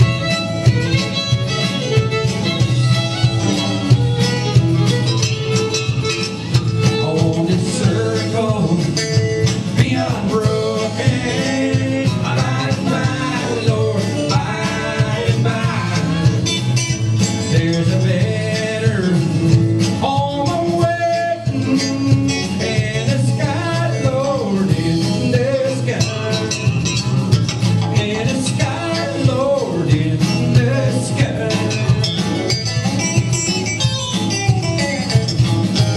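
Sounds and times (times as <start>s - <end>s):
live country band playing: 0.0s - 35.9s.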